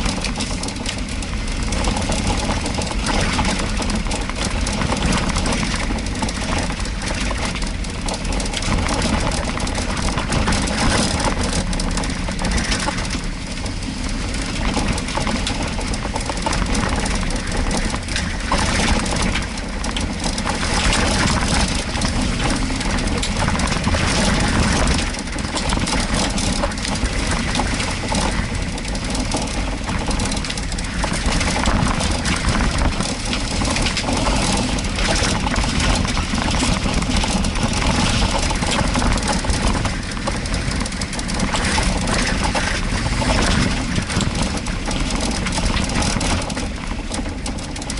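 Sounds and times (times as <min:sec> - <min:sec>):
car engine running: 0:00.0 - 0:47.9
knocks and rattles: 0:00.0 - 0:47.9
tyres splashing through mud: 0:00.0 - 0:47.9.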